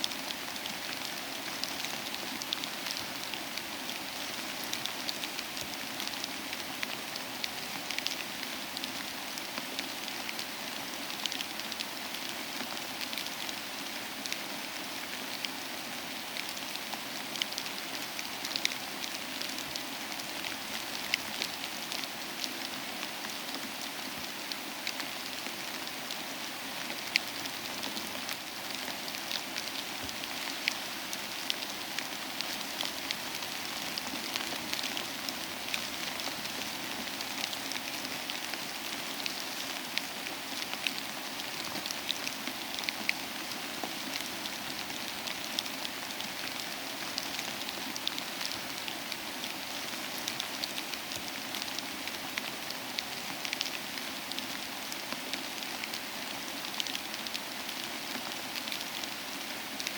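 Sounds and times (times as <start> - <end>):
soft rain: 0.0 - 59.9.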